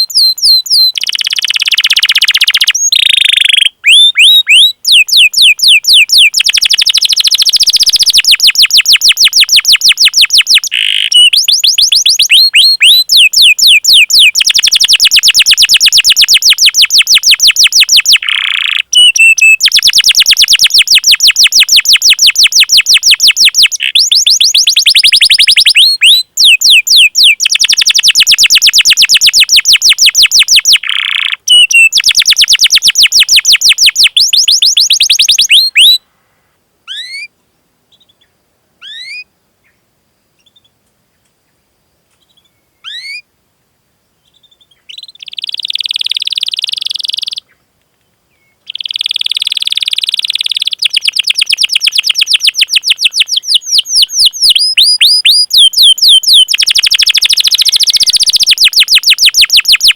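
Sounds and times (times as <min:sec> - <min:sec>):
canary call notes: 0:00.0 - 0:36.0, 0:36.9 - 0:37.3, 0:38.8 - 0:39.8, 0:42.8 - 0:43.2, 0:44.7 - 0:47.6, 0:48.6 - 0:59.9
canary singing: 0:00.0 - 0:36.0, 0:36.9 - 0:37.3, 0:38.8 - 0:39.3, 0:42.3 - 0:43.2, 0:44.3 - 0:47.6, 0:48.4 - 0:59.9.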